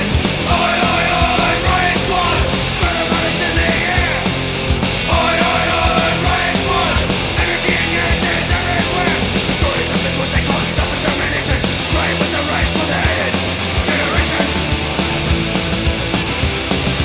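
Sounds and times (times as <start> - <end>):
drum hits: 0.0 - 17.0
punk rock band playing: 0.0 - 17.0.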